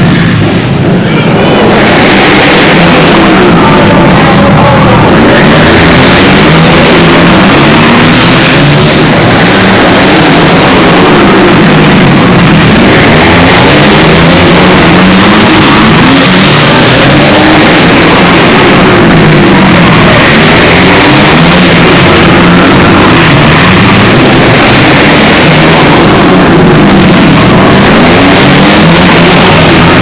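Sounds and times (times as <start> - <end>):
racing motorcycles revving: 0.0 - 30.0.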